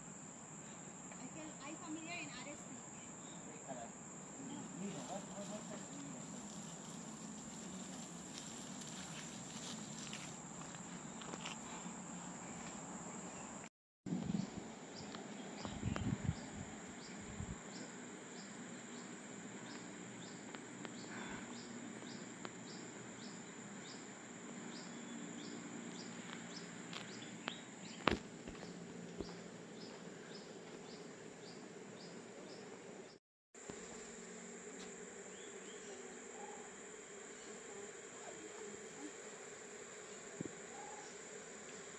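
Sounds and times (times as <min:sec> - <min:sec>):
high insect chirp: 0:00.0 - 0:41.9
insects buzzing: 0:00.0 - 0:41.9.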